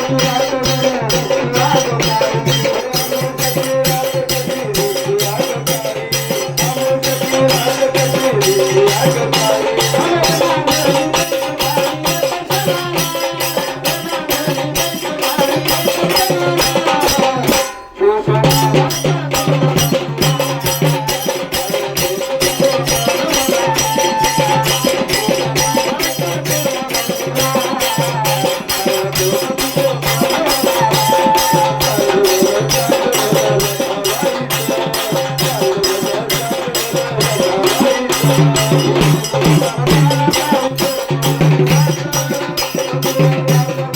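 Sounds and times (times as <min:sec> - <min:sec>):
fast shaker beat: 0:00.0 - 0:17.7, 0:18.4 - 0:43.9
devotional folk song: 0:00.0 - 0:43.9.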